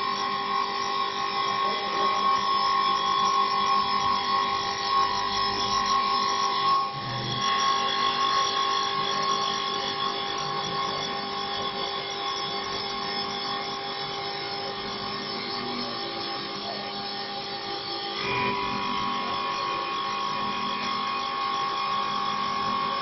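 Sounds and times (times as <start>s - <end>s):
lathe whine: 0.0s - 23.0s.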